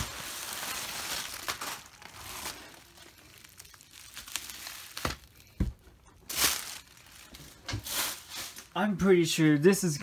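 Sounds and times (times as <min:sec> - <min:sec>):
bubble wrap crinkling: 0:00.0 - 0:09.0.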